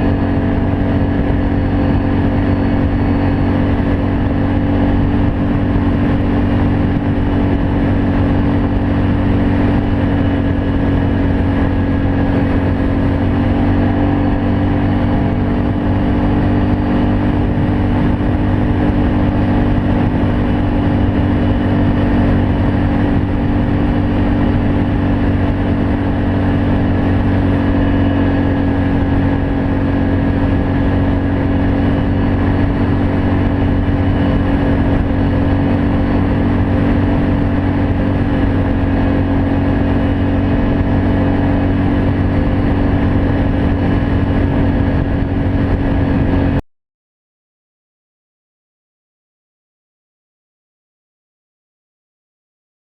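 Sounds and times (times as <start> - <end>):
atv engine running steadily: 0.0 - 46.6.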